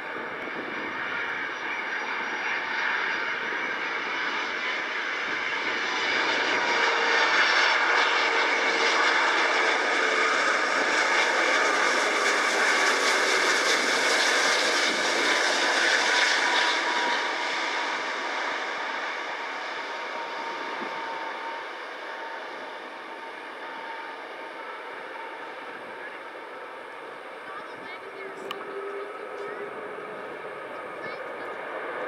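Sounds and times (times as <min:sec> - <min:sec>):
jet engines roaring and whining: 0:00.0 - 0:32.0.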